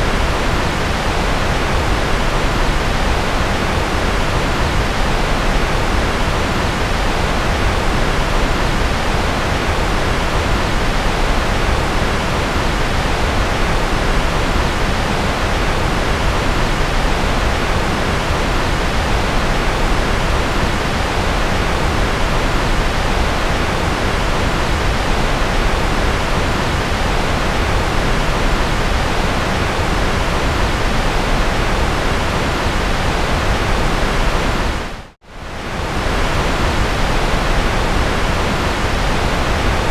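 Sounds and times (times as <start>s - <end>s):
steady white noise: 0.0s - 39.9s.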